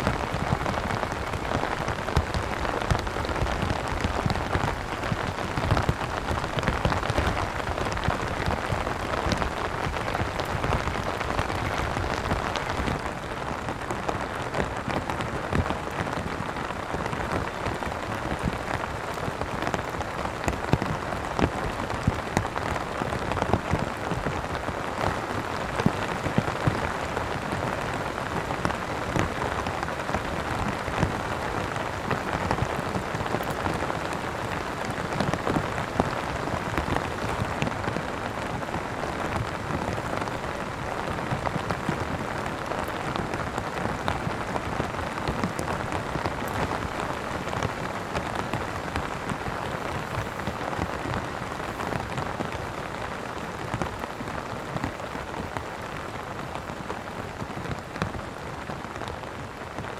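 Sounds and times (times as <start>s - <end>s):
heavy rain: 0.0s - 59.9s
raindrops ticking: 0.0s - 59.9s.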